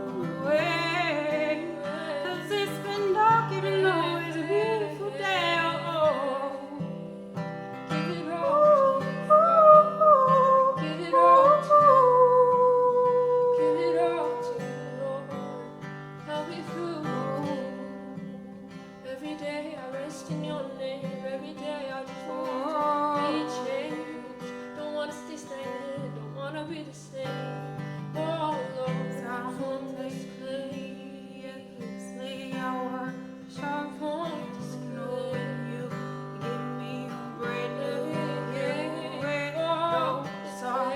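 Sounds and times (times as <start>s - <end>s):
acoustic guitar: 0.0s - 40.9s
person singing: 0.0s - 40.9s.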